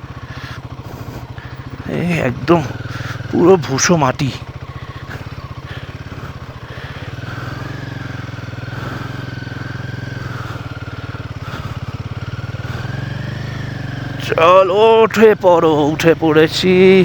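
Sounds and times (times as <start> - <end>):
motorcycle engine running slowly: 0.0 - 17.0.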